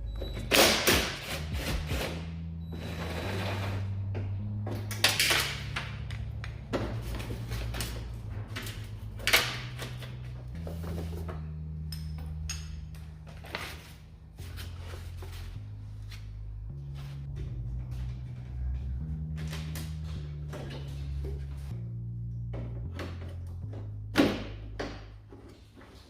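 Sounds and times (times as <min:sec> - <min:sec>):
background music with bass line: 0:00.0 - 0:25.8.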